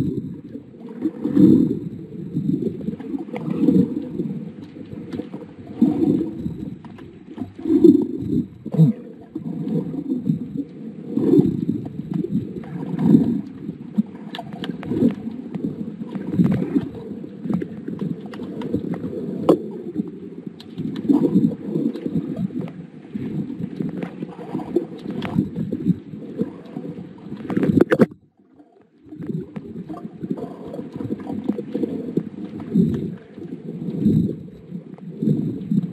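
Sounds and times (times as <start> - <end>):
muffled underwater water noise: 0.0 - 35.9.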